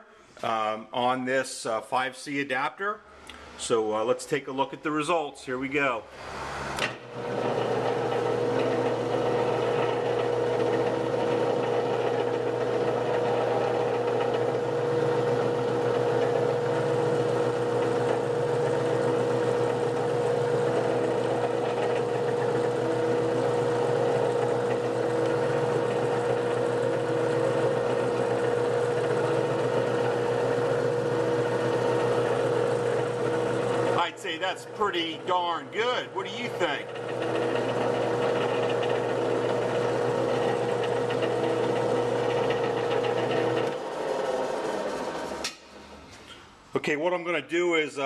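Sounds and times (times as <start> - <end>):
metal lathe running: 6.2 - 45.9.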